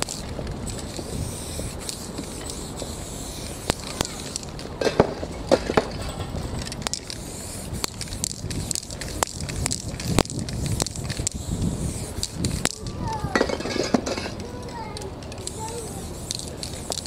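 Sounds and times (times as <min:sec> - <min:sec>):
spray paint can hissing: 0:00.0 - 0:04.7, 0:06.6 - 0:13.4, 0:14.6 - 0:17.0.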